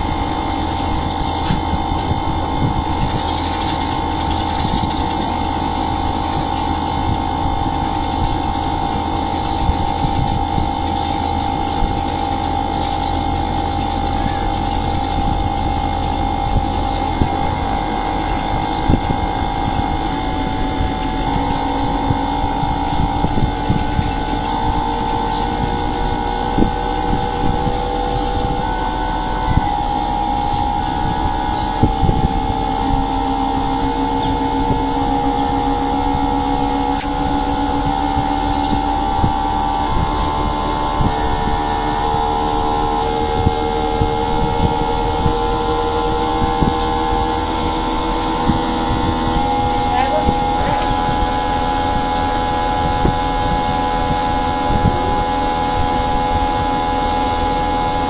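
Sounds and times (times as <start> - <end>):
motor humming: 0.0 - 58.0
whining tones: 0.0 - 58.0.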